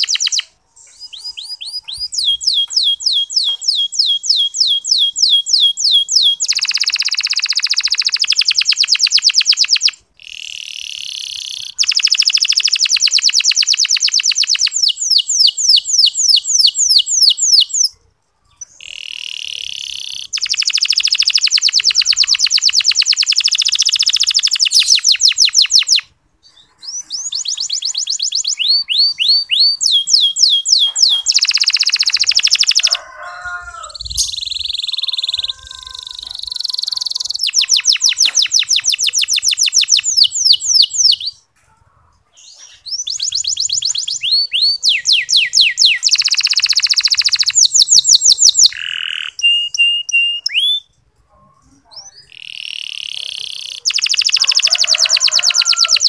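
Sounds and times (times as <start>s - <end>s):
canary singing trills: 0.0s - 41.6s, 42.3s - 51.0s, 51.7s - 56.0s.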